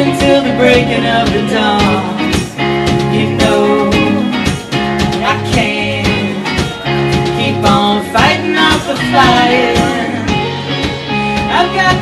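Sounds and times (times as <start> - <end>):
woman singing: 0.0 - 10.6, 11.3 - 12.0
live band playing: 0.0 - 12.0.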